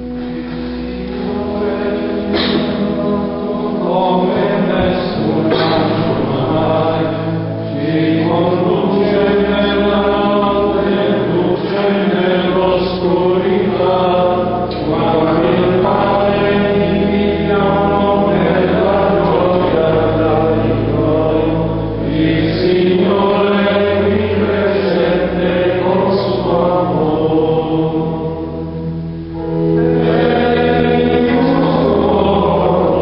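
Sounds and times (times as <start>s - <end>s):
men singing a chant: 1.3s - 28.5s, 29.8s - 33.0s.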